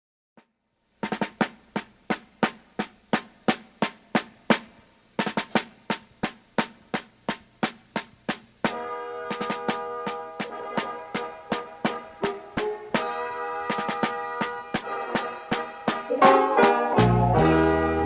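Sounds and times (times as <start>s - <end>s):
drum beat: 1.0s - 17.5s.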